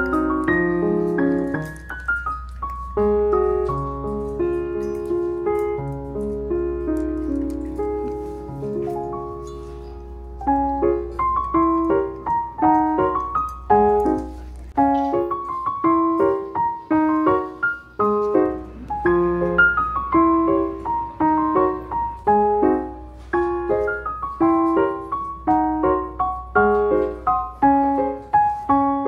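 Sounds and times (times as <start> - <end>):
piano melody: 0.0 - 29.0.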